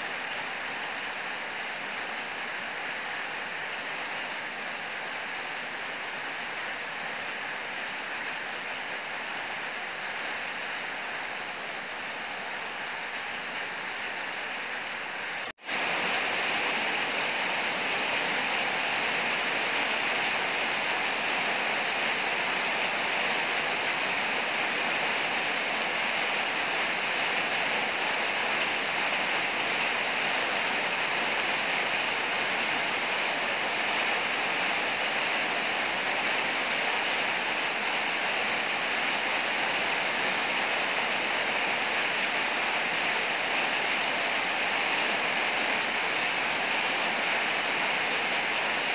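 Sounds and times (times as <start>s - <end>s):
heavy rain hissing: 0.0s - 48.9s.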